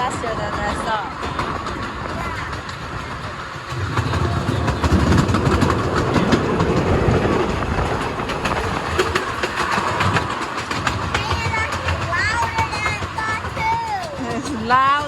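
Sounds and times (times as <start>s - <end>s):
train coaches rumbling: 0.0s - 15.0s
wheels clattering over rail joints: 0.0s - 15.0s.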